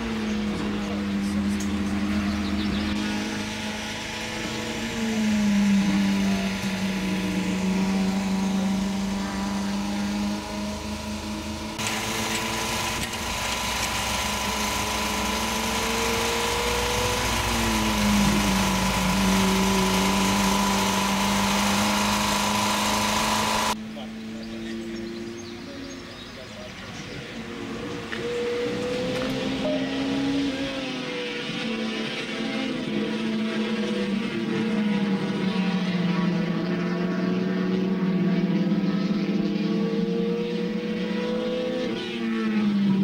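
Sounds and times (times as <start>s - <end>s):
car engine droning: 0.0s - 43.0s.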